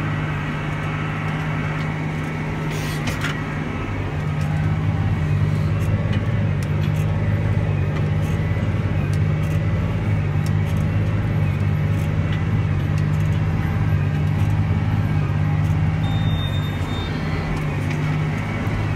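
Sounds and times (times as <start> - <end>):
tractor engine drone: 0.0 - 18.9.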